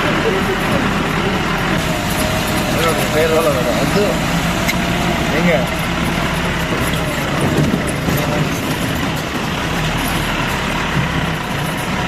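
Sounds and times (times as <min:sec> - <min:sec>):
engine running with road noise: 0:00.0 - 0:12.0.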